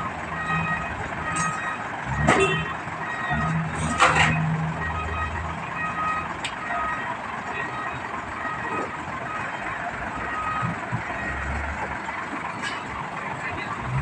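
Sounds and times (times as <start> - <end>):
warning beeps: 0.3 - 11.6.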